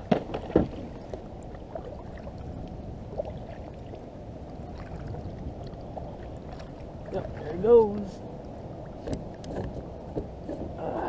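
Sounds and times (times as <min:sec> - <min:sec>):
water and wind wash: 0:00.0 - 0:11.0.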